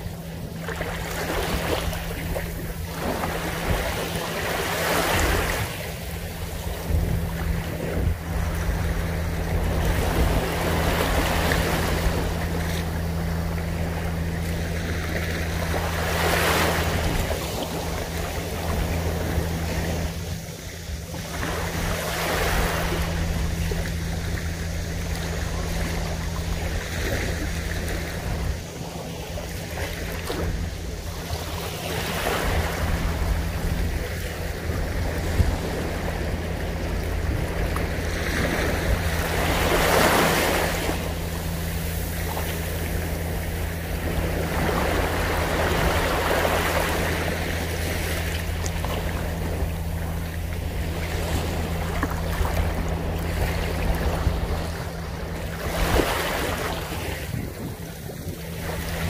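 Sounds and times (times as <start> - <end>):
small waves breaking on sand: 0.0 - 59.0
steady low hum: 0.0 - 59.0.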